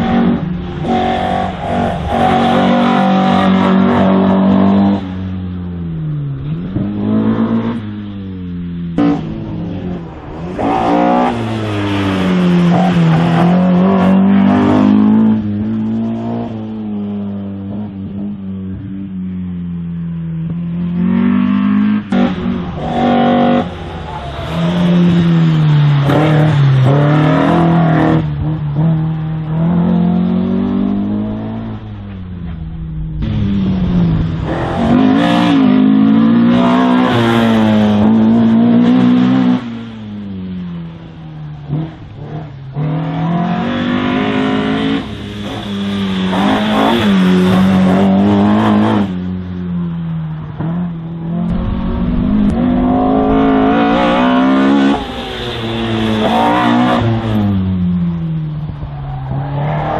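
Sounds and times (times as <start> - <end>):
race car engine revving: 0.0 - 5.8, 6.4 - 18.8, 20.4 - 40.0, 40.8 - 49.7, 50.4 - 59.9.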